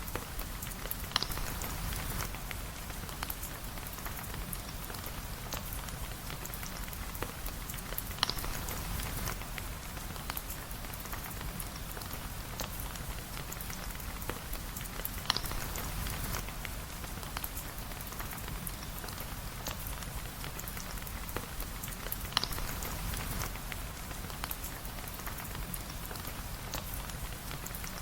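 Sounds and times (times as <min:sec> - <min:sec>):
sharp ticks and drips: 0:00.0 - 0:28.0
steady rain falling: 0:00.0 - 0:28.0.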